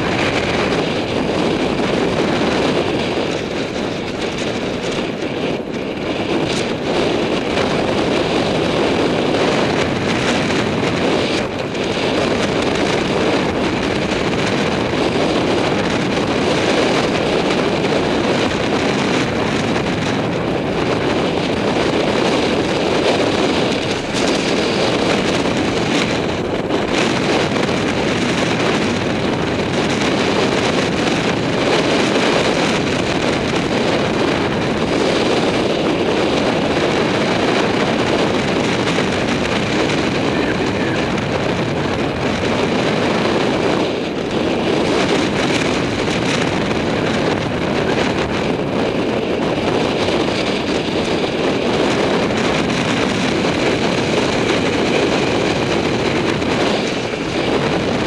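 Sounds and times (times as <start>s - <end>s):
tyre noise on rough asphalt: 0.0s - 58.0s
wind rushing over microphone: 0.0s - 58.0s.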